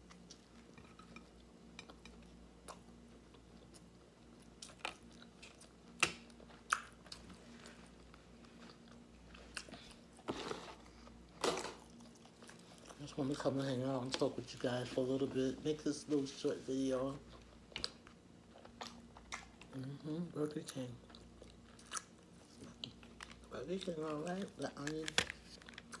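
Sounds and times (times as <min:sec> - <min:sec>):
person chewing a sandwich: 0:00.0 - 0:13.4, 0:17.2 - 0:24.6, 0:25.5 - 0:26.0
faint steady hum: 0:00.0 - 0:26.0.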